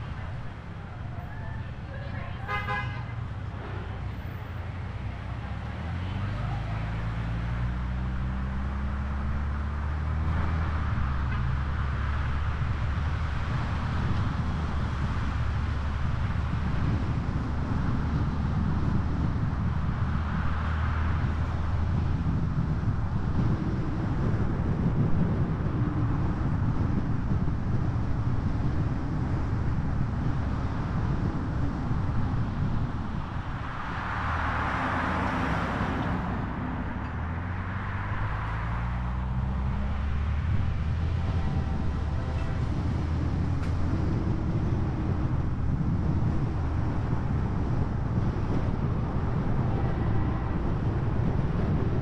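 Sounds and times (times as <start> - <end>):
vehicle low rumble: 0.0 - 52.0.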